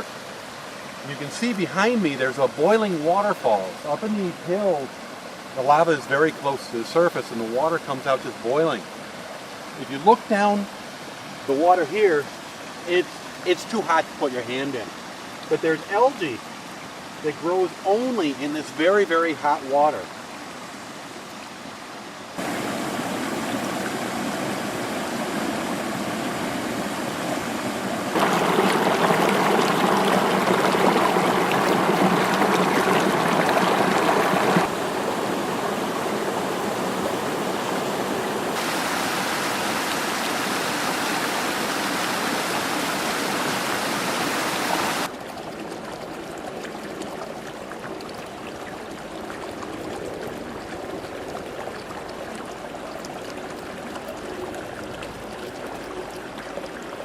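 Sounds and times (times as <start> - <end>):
rushing water of river and waterfall: 0.0 - 57.0.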